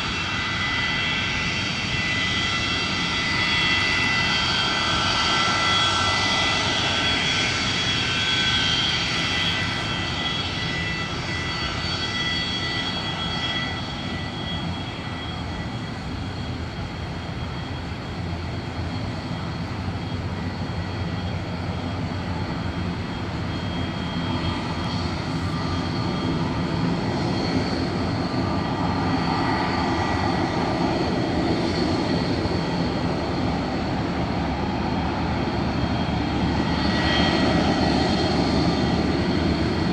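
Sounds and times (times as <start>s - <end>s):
jet engine rumble: 0.0s - 39.9s
jet engine whine: 0.0s - 39.9s.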